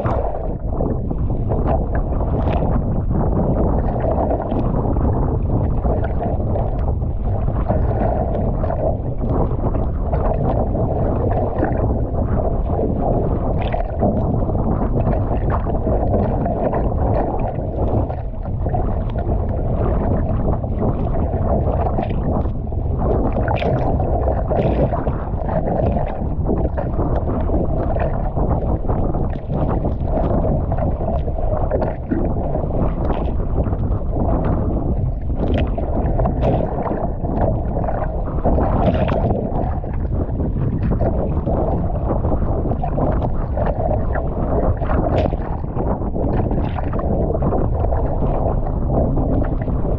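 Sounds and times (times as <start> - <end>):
water sloshing against hull: 0.0 - 49.9
wind rumbling on microphone: 0.0 - 49.9.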